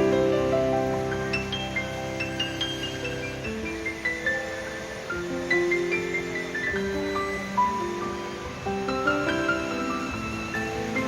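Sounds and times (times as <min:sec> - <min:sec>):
gentle instrumental melody: 0:00.0 - 0:11.0.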